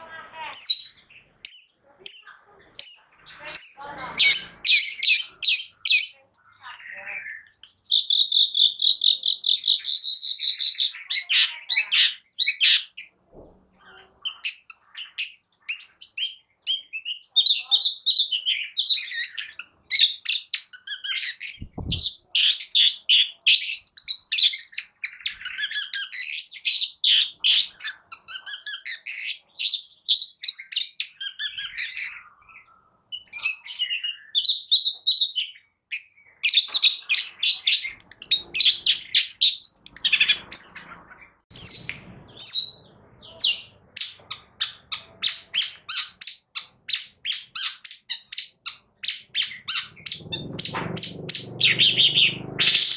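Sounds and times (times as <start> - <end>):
bird chattering song: 0.0 - 52.9.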